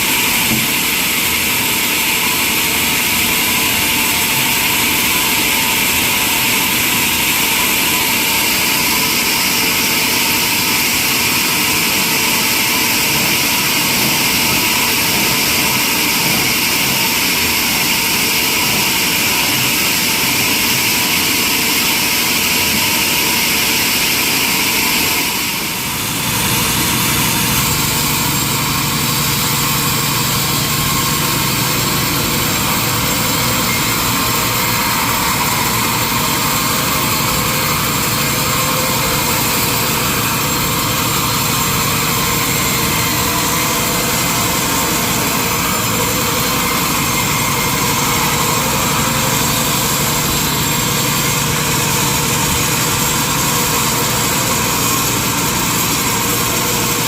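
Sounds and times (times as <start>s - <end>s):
sawmill machinery hissing: 0.0s - 57.0s.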